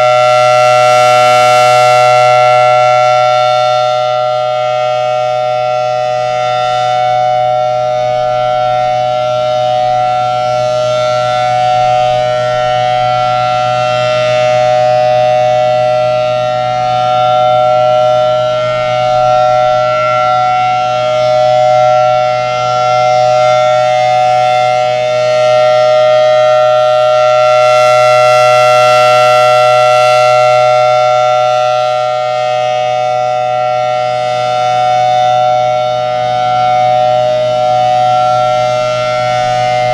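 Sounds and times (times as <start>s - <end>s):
siren two-tone chord: 0.0s - 39.9s.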